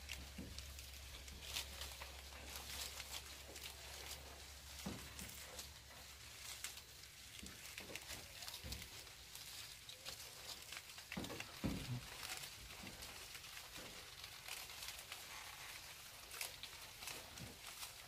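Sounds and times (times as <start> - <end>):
leaves rustling and crackling: 0.0 - 18.0.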